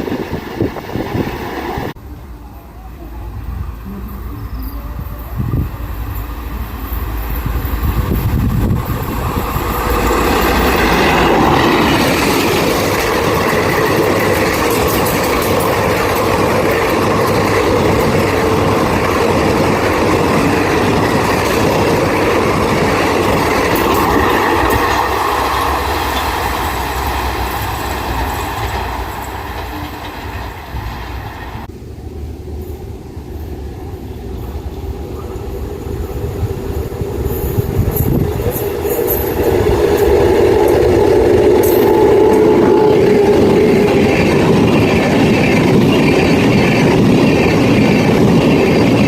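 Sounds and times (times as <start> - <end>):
train wheels running on rails: 3.3 - 49.0.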